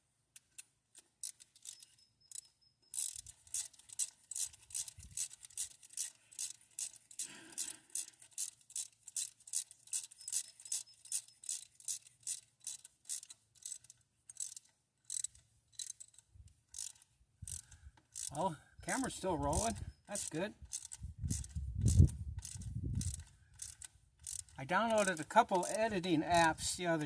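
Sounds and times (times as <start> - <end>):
ratchet wrench clicking: 0.4 - 18.4, 19.0 - 25.8.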